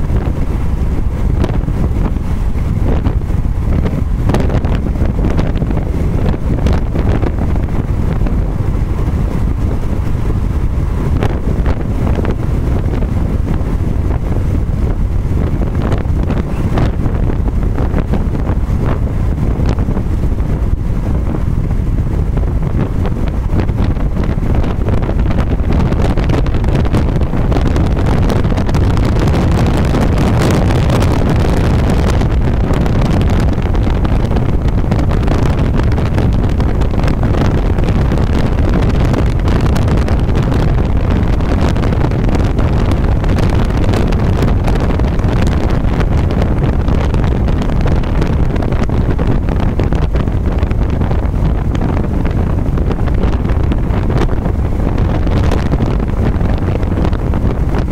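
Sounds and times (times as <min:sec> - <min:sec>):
road and tyre noise: 0:00.0 - 0:57.9
wind rushing over microphone: 0:00.0 - 0:57.9.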